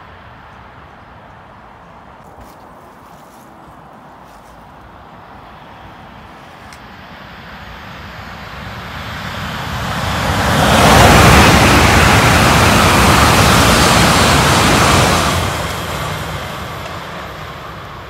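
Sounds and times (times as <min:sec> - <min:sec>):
electric train passing at speed: 0:00.0 - 0:02.2, 0:04.0 - 0:18.0.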